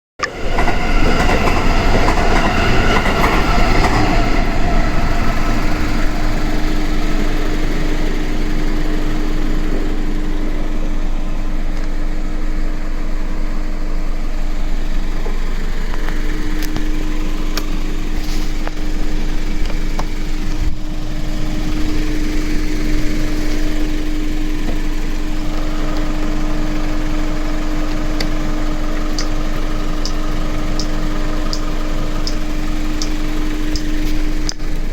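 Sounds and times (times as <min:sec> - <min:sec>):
scooter engine running: 0:00.2 - 0:34.9.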